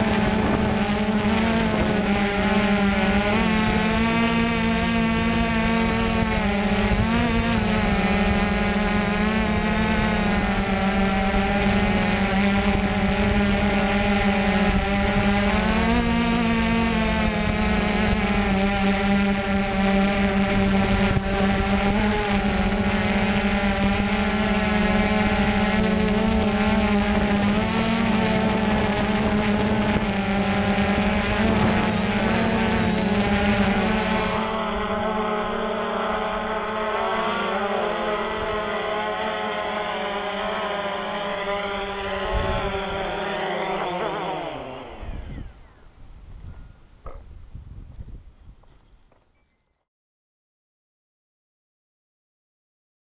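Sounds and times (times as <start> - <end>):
drone propellers buzzing hum: 0.0 - 49.3.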